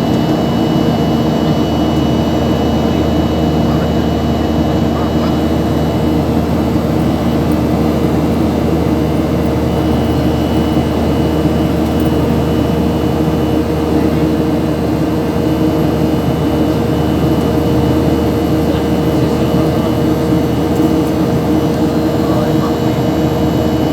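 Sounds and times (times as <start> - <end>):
constant rushing noise: 0.0 - 23.9
held hum tones: 0.0 - 23.9
vehicle engine drone: 0.0 - 23.9.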